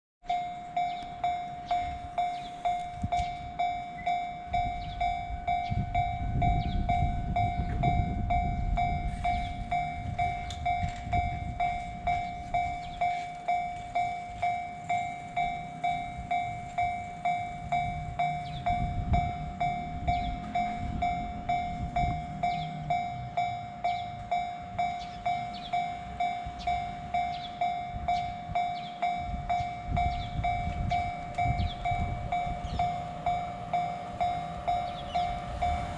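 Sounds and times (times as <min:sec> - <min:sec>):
railroad crossing alarm ringing: 0:00.2 - 0:35.9
train rumbling: 0:00.2 - 0:35.9.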